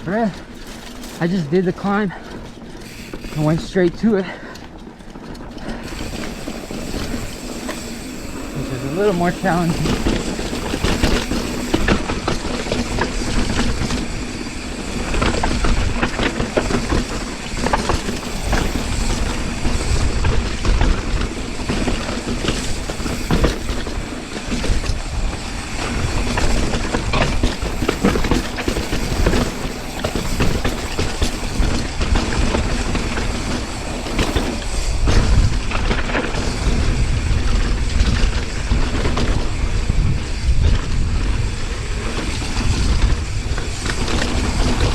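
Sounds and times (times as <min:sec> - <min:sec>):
bike chain and frame rattling: 0:00.0 - 0:44.9
bike tyres on dirt and rock: 0:00.0 - 0:44.9
wind rumbling on microphone: 0:04.6 - 0:44.9.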